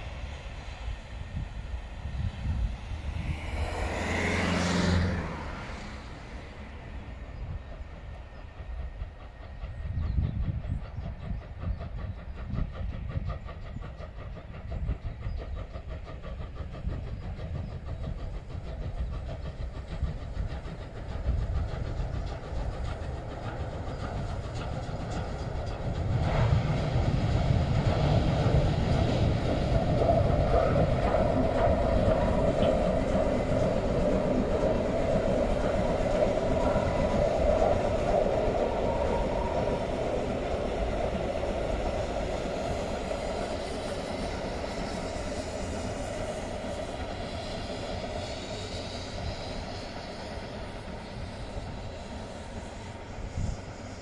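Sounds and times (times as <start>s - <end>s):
steam locomotive passing: 0.0s - 54.0s
train running on rails: 0.0s - 54.0s.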